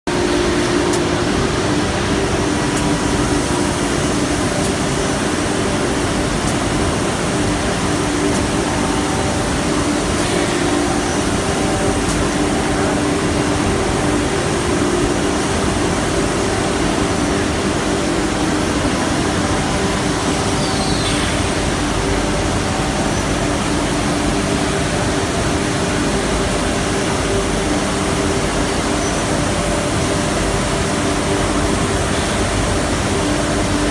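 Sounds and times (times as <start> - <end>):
constant hum: 0.1 - 33.9.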